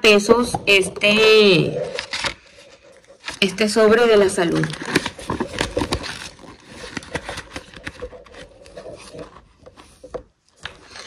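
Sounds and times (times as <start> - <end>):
plastic pouch rustling and crinkling: 1.8 - 11.0.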